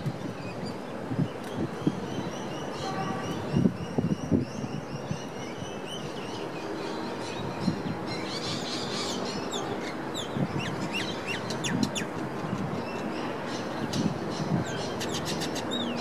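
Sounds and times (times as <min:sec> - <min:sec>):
distant city traffic: 0:00.0 - 0:16.0.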